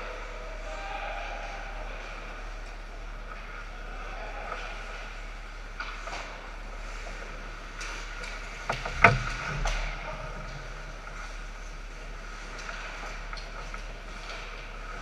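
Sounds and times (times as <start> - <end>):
background hum: 0.0 - 15.0
hockey sticks clacking: 2.1 - 15.0.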